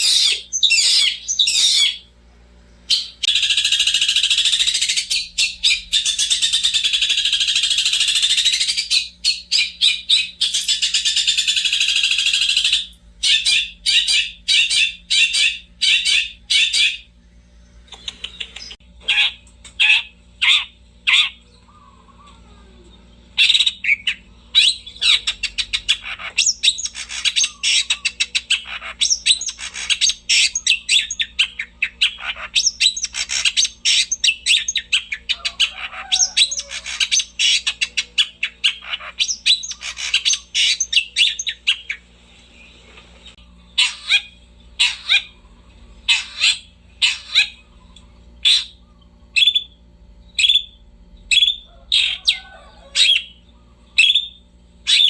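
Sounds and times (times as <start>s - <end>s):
sharp bird calls: 0.0s - 2.1s, 2.8s - 55.0s.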